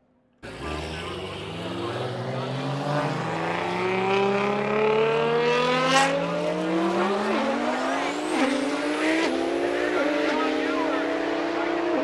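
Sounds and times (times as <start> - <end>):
car engine accelerating and shifting: 0.4 - 12.0.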